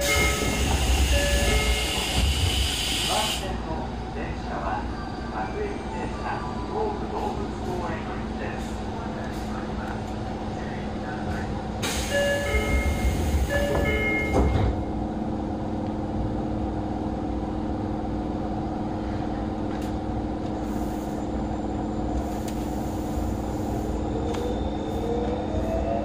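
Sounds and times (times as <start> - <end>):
train hum: 0.0 - 26.0.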